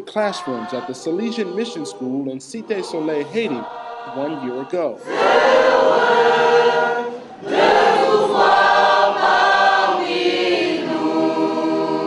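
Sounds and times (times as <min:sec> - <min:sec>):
choir singing long notes: 0:00.0 - 0:12.0.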